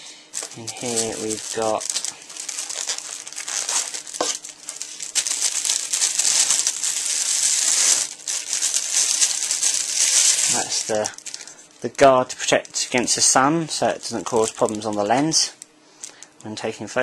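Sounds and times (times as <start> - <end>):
packaging crinkling: 0.3 - 16.3.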